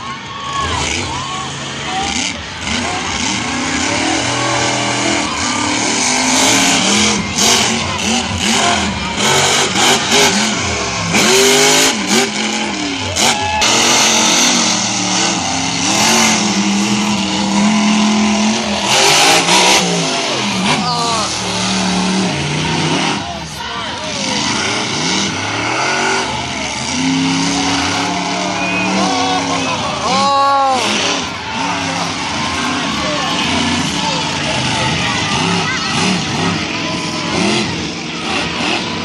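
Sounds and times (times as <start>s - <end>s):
bursts of loud noise: 0.0s - 39.0s
monster truck engines revving: 0.0s - 39.0s.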